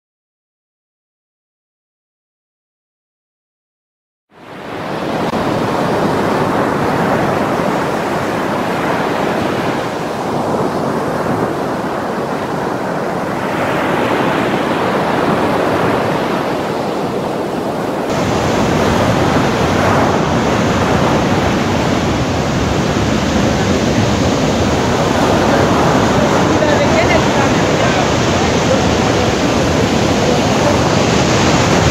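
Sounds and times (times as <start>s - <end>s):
waves crashing on rocks: 4.5s - 31.9s.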